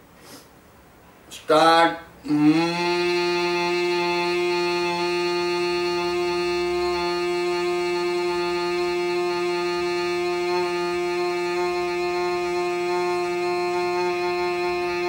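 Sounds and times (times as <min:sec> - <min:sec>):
man humming: 0:02.2 - 0:15.0.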